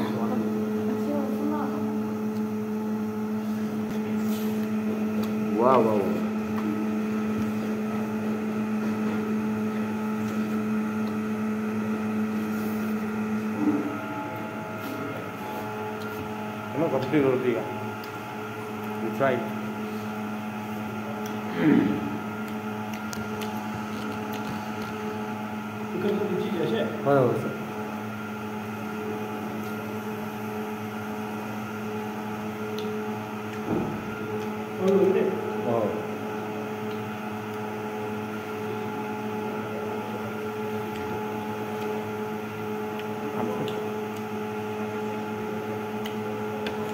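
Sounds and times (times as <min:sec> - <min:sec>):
low machine hum: 0:00.0 - 0:46.9.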